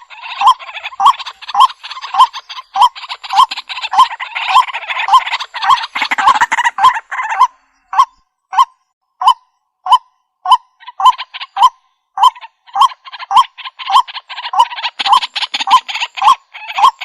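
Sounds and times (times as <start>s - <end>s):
rough bird chatter: 0.0s - 8.9s, 10.5s - 17.0s.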